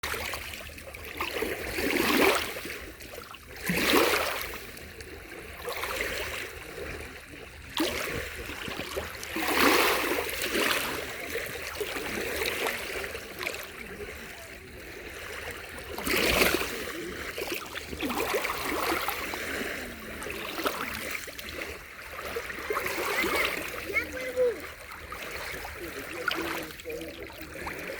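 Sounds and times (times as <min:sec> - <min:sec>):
waves washing onto shore: 0:00.0 - 0:27.9.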